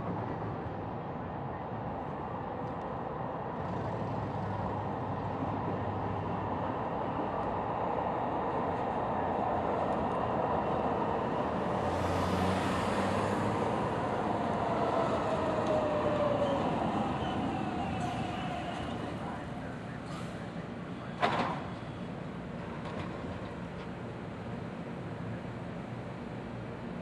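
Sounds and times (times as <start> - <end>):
light rail train rumbling: 0.0 - 27.0.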